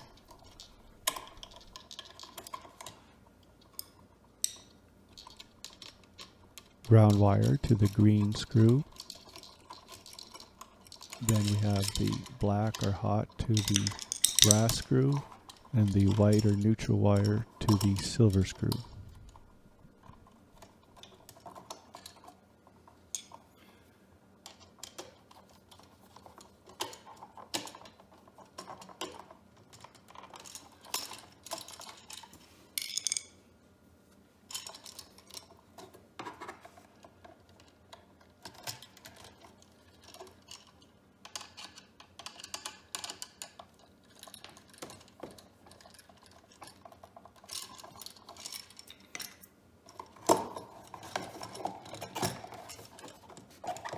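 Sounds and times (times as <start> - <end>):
clicks and metallic clinks: 3.7 - 22.4, 24.4 - 33.4, 37.6 - 53.9.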